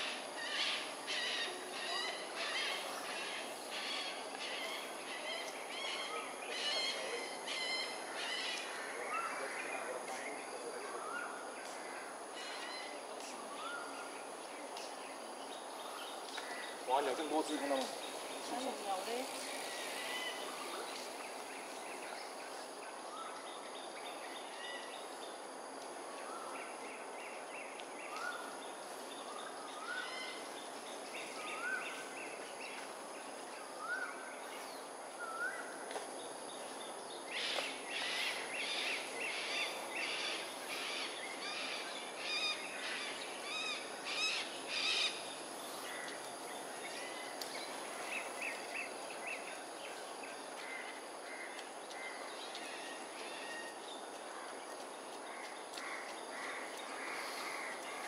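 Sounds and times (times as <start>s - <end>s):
high-pitched hiss: 0.0s - 51.2s.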